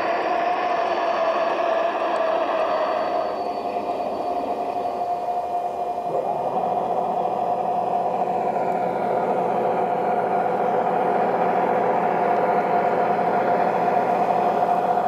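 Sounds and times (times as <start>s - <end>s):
model locomotive diesel engine hum: 0.0s - 15.0s.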